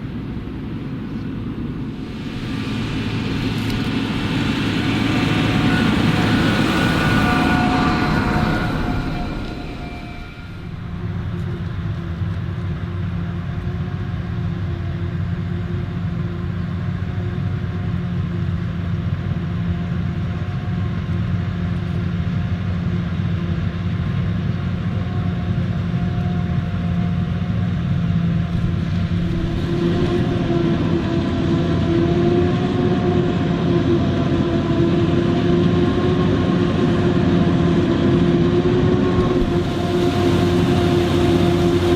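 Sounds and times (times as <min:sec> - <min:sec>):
diesel farm machinery drone: 0:00.0 - 0:41.9.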